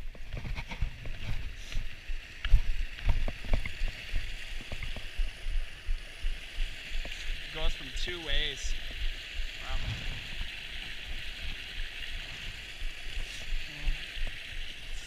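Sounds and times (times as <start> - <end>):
creek rushing: 0.0 - 15.0.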